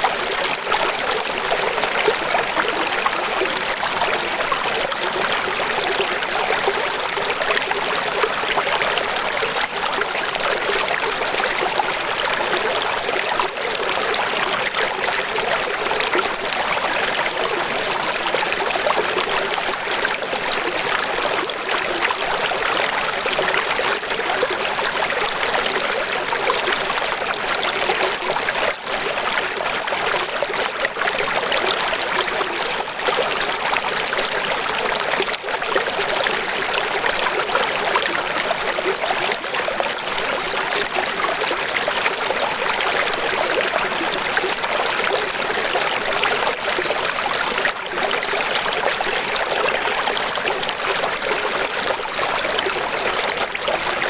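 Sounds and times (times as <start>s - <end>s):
water rushing and splashing: 0.0s - 54.0s.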